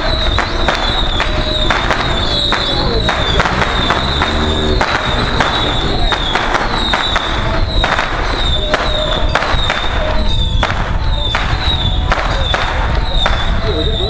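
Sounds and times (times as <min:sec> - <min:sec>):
firecrackers banging: 0:00.0 - 0:14.0
steady crackling din: 0:00.0 - 0:14.0.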